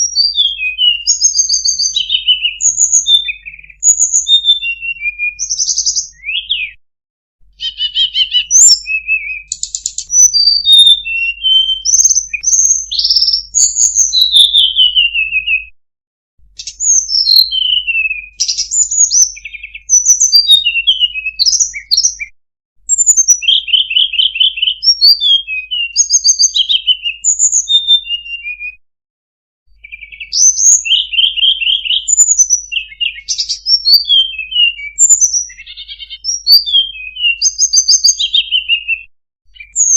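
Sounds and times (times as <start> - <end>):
songbird singing: 0.0 - 6.8, 7.5 - 15.7, 16.5 - 22.3, 22.9 - 28.7, 29.7 - 39.9.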